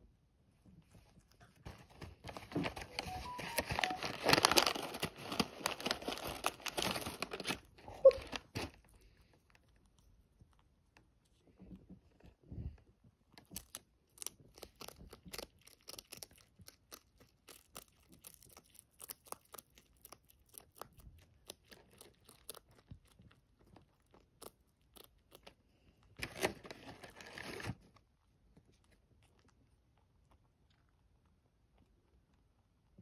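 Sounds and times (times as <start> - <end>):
rabbit chewing crunchy food: 0.9 - 33.0.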